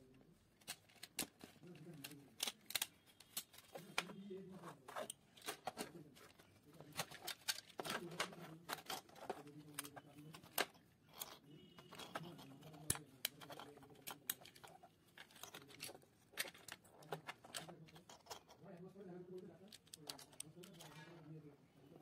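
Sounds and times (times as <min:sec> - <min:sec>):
plastic toy gears clicking and rattling: 0:00.6 - 0:03.8, 0:05.0 - 0:21.2.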